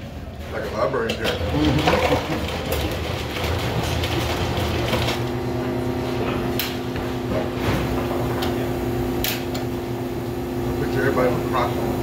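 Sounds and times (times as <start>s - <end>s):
steady electric hum: 0.0s - 12.0s.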